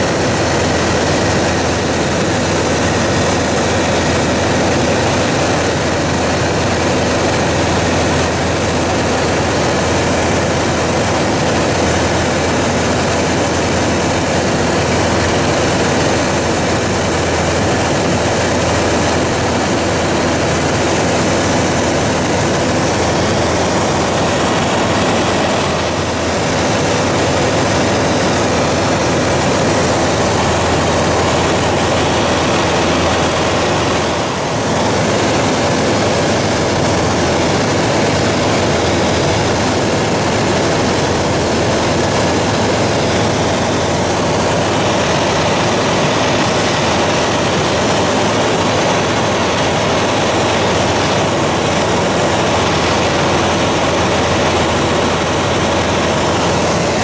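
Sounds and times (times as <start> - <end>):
propeller aircraft engine: 0.0 - 57.0.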